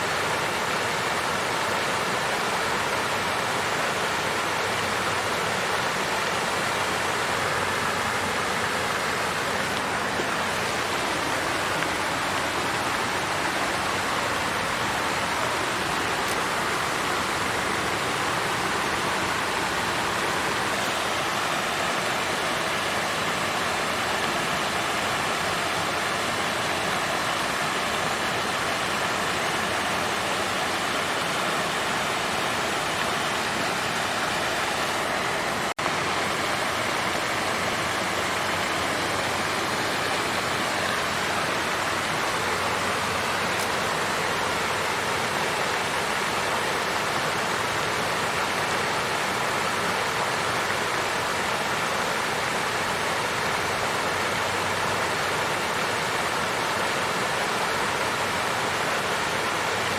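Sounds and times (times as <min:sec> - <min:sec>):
water fountain flowing: 0:00.0 - 0:59.9.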